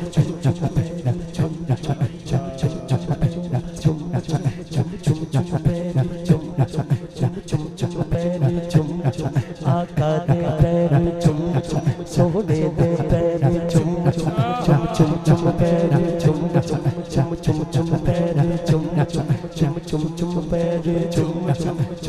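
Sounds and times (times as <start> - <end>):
man singing over loudspeaker: 0.0 - 22.0.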